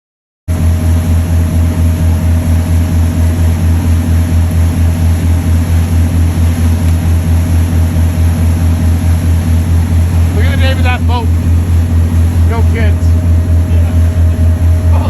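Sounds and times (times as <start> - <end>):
boat engine throbbing hum: 0.5 - 15.0.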